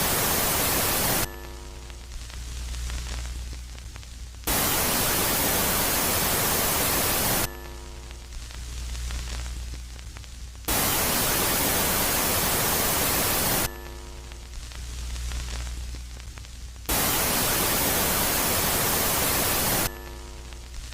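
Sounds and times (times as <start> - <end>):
harsh static hiss: 0.0 - 20.9.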